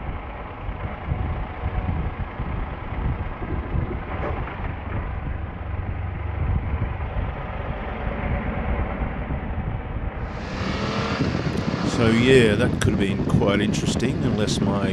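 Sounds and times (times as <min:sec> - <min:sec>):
motorcycle engine running: 0:00.0 - 0:14.9
wind rumble on microphone: 0:00.0 - 0:14.9.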